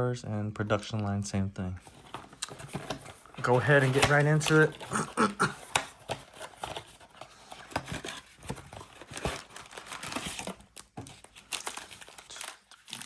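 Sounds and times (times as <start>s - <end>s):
plastic wrapping crinkling and tearing: 1.9s - 13.0s.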